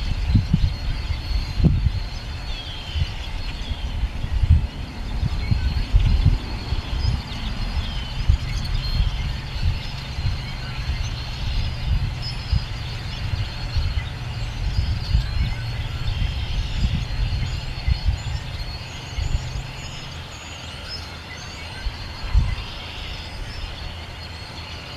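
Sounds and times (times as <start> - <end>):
wind buffeting microphone: 0.0 - 21.0, 21.6 - 24.9
bird chirps: 0.0 - 24.9
spring peepers calling: 0.0 - 24.9.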